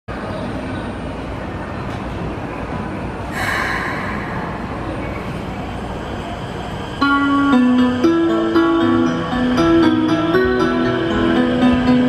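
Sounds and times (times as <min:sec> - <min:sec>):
train low rumble and hum: 0:00.1 - 0:12.0.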